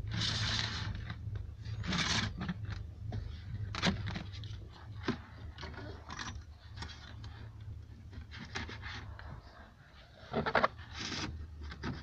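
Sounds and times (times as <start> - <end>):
steady low hum: 0.0 - 12.0
wire and plastic rustling: 0.0 - 12.0.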